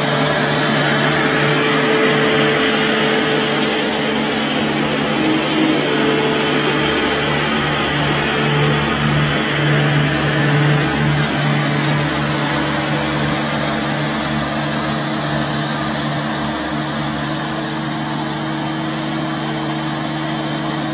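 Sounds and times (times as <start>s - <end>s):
machine motor humming: 0.0s - 20.9s.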